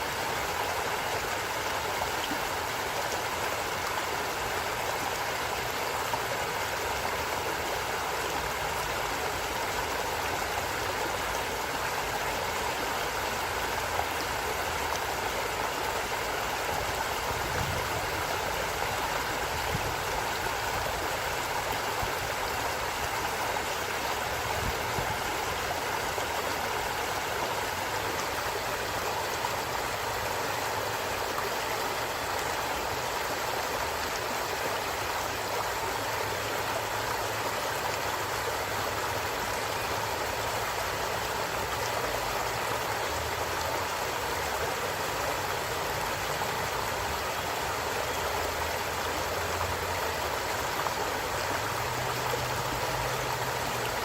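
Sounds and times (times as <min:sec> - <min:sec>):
water running over rocks: 0:00.0 - 0:54.0.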